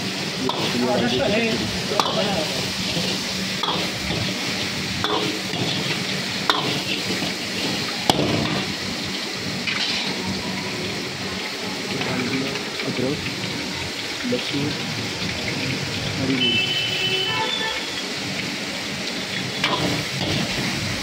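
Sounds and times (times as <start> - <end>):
deep-frying in oil: 0.0 - 21.0
food sizzling in a wok: 0.0 - 21.0.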